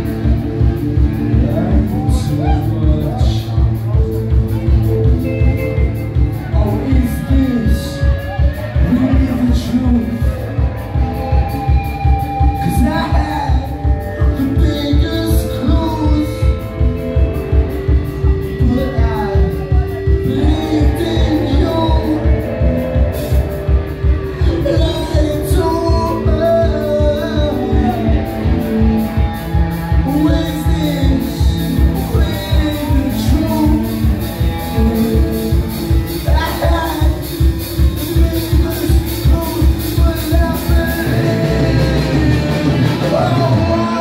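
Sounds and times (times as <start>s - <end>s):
bass guitar: 0.0s - 44.0s
electric guitars: 0.0s - 44.0s
steady drum beat: 0.0s - 44.0s
sung vocals: 0.0s - 44.0s.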